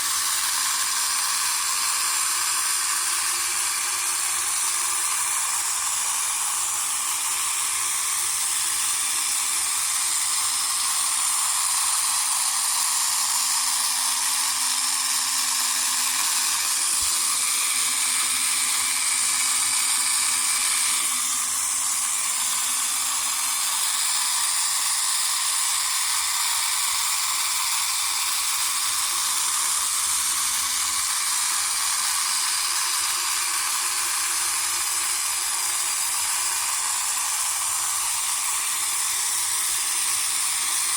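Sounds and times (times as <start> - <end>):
high-pitched toy motor running: 0.0 - 40.9.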